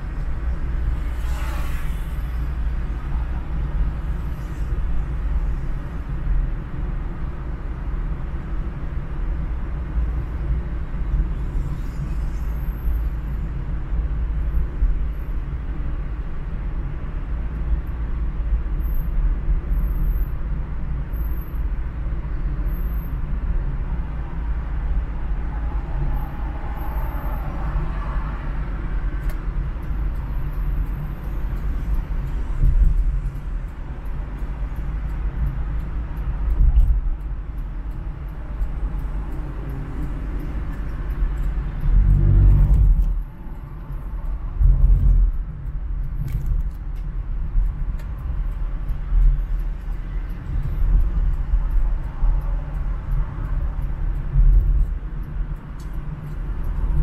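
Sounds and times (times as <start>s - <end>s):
car engine and tyre rumble: 0.0s - 57.0s
city traffic: 0.0s - 57.0s.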